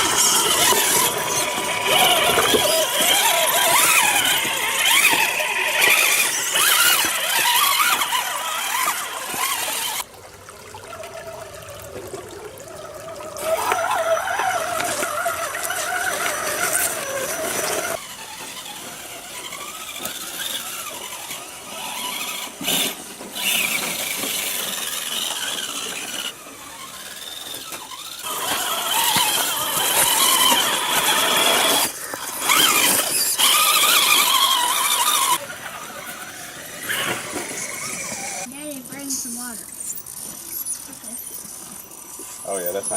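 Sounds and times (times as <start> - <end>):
electric motor and gears whining: 0.0 - 10.1, 11.9 - 42.9.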